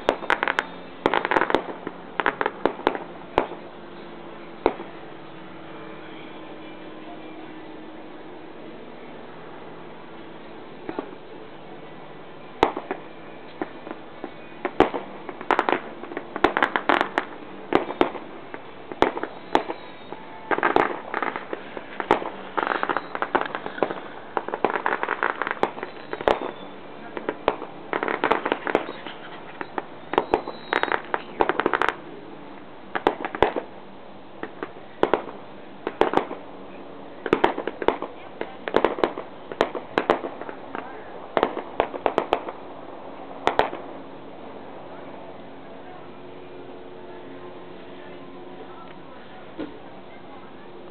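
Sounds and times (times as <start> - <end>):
fireworks banging and crackling: 0.0 - 50.9.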